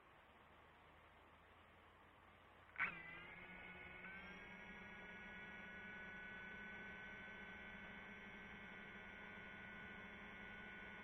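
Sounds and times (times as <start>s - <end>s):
faint hum of held tones: 0.0s - 11.0s.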